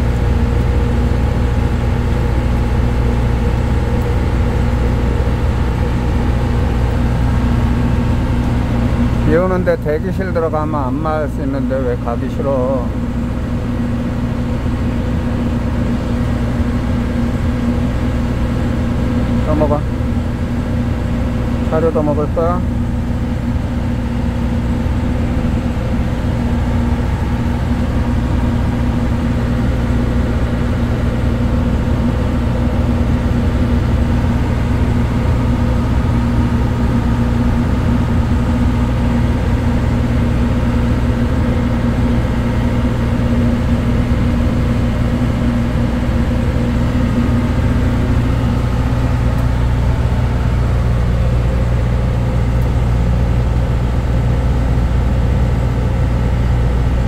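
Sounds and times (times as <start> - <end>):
ship engine droning: 0.0 - 57.0.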